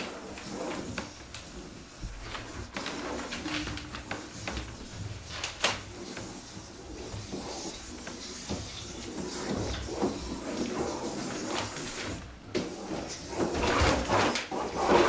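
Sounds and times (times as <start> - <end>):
sheet rustling and scraping: 0.0 - 15.0.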